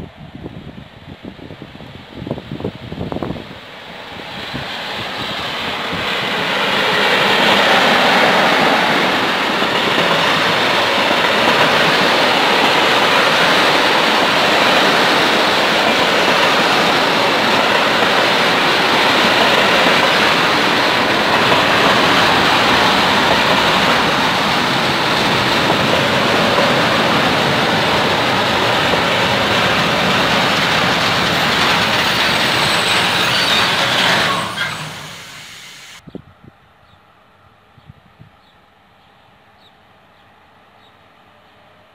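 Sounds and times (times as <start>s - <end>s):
freight train wheels rolling on rails: 0.2s - 36.0s.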